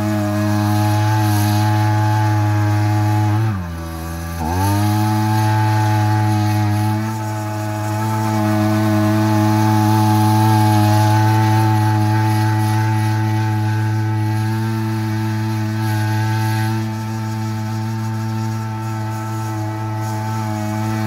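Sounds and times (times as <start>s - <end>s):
small two-stroke engine running: 0.0s - 21.0s.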